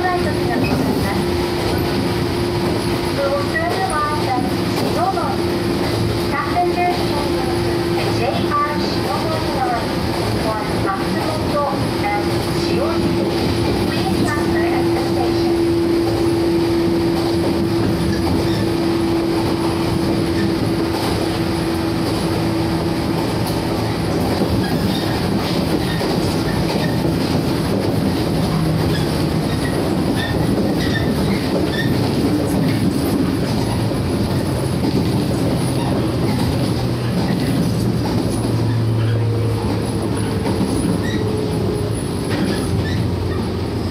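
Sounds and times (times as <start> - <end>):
electric train rumbling: 0.0 - 43.9
rail-joint clicks: 0.0 - 43.9.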